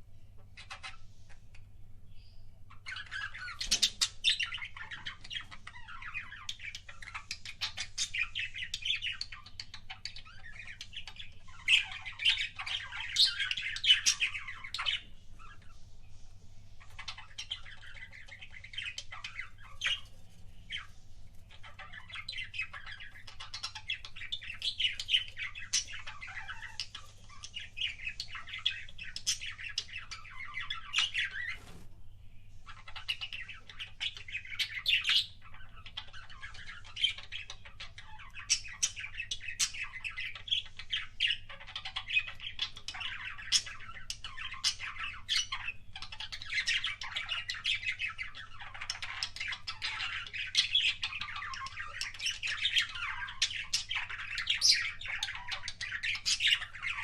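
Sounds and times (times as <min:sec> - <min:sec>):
budgies chattering: 0:00.4 - 0:57.0.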